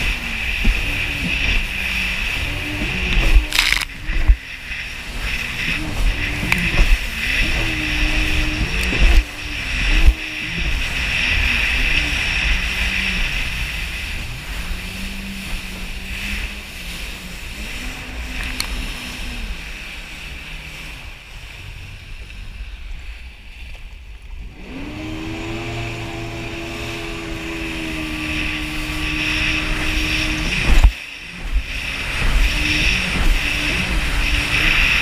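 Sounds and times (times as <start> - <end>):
hiss of water and wind: 0.0 - 35.0
jet ski engine revving: 0.0 - 35.0.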